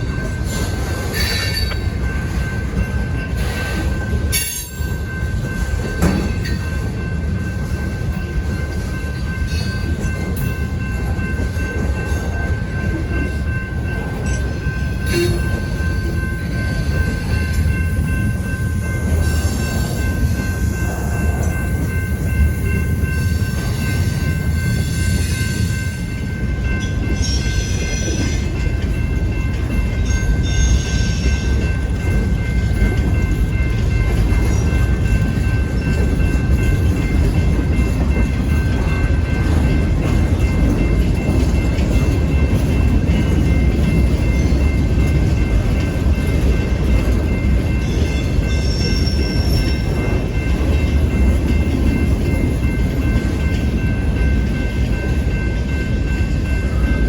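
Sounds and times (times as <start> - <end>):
faint high wheel ring: 0.0 - 57.0
freight train rumbling past: 0.0 - 57.0.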